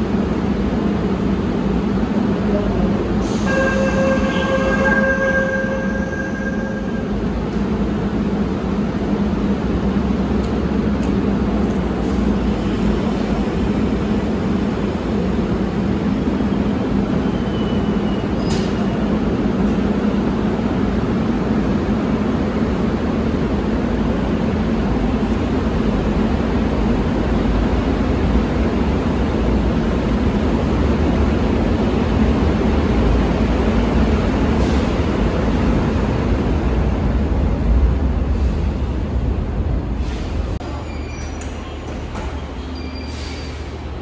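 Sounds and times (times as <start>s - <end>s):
electric train rumbling: 0.0s - 44.0s.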